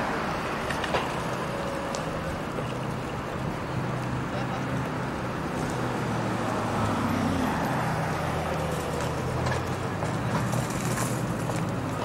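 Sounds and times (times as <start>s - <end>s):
street and crowd noise: 0.0s - 12.0s.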